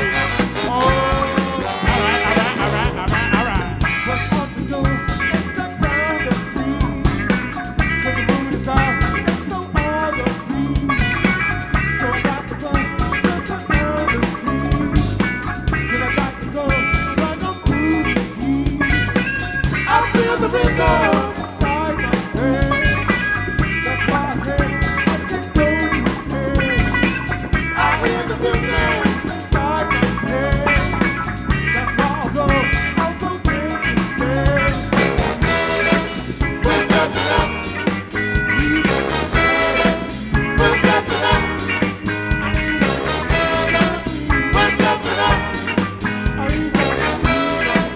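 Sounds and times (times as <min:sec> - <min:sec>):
band playing funk: 0:00.0 - 0:47.9
drum kit beat: 0:00.0 - 0:47.9
melodic lead line: 0:00.0 - 0:47.9.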